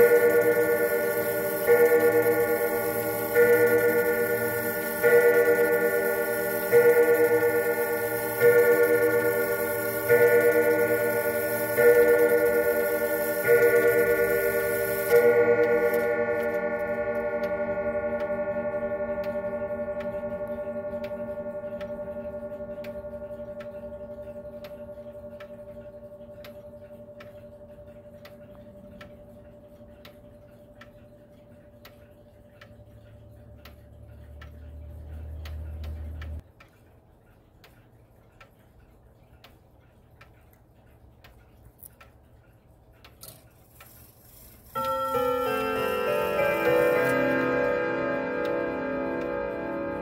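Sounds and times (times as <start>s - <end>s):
clock chime rods ringing: 0.0s - 36.4s, 43.8s - 50.0s
clock ticking: 0.0s - 50.0s.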